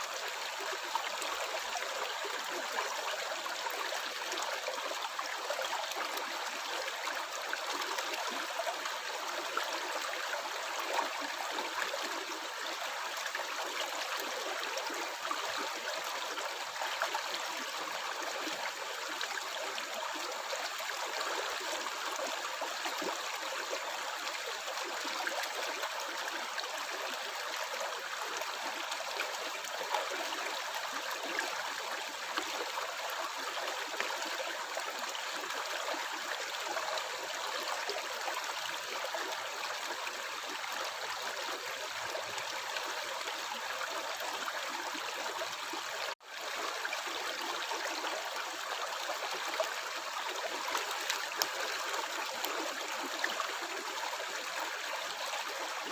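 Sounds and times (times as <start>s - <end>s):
stream gurgling and trickling: 0.0s - 55.9s.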